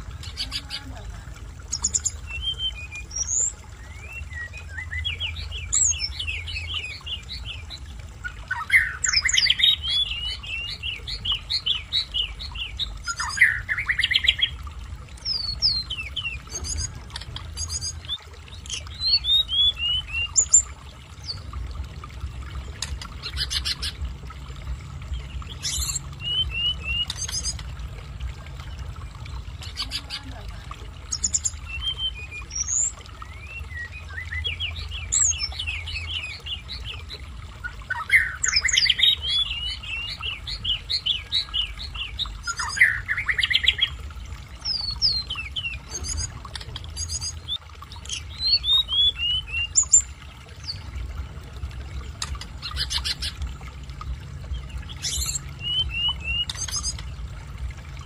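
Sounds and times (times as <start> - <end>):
running water: 0.0 - 58.0
bird chirping and trilling: 0.1 - 21.6, 22.3 - 24.3, 25.0 - 27.8, 28.5 - 51.1, 51.8 - 57.3.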